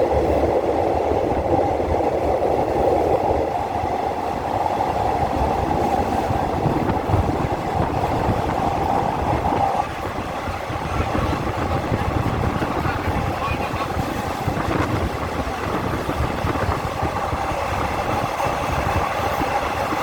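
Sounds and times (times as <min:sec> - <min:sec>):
train rumbling on rails: 0:00.0 - 0:20.0
train whine: 0:00.0 - 0:20.0.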